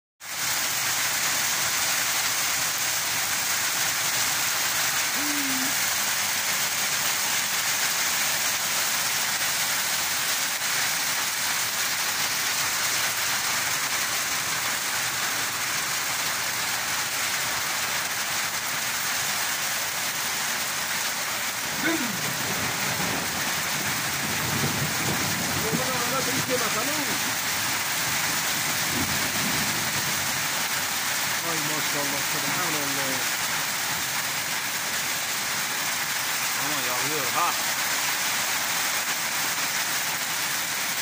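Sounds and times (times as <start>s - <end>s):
heavy rain on paving stones: 0.2s - 41.0s.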